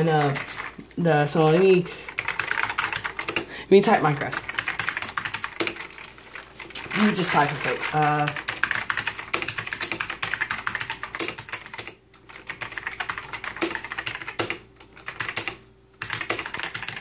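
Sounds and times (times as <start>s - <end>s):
mechanical keyboard typing: 0.0s - 17.0s.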